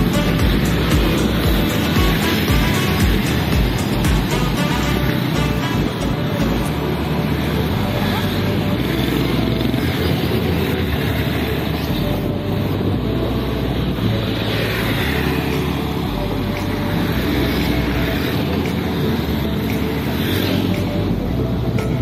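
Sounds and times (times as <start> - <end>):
motorbike engines: 0.0 - 22.0
street traffic: 0.0 - 22.0.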